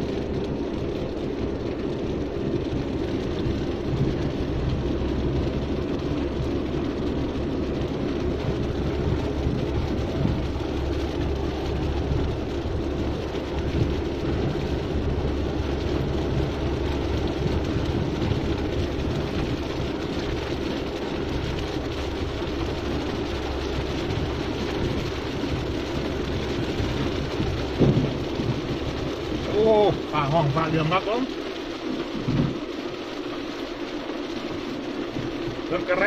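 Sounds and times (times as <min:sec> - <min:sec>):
heavy rain: 0:00.0 - 0:36.0
vehicle driving on road: 0:00.0 - 0:36.0.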